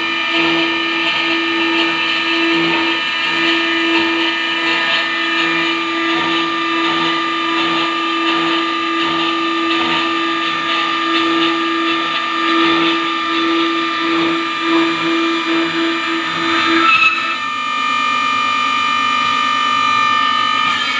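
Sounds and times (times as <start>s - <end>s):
circular saw blade whine: 0.0s - 20.9s.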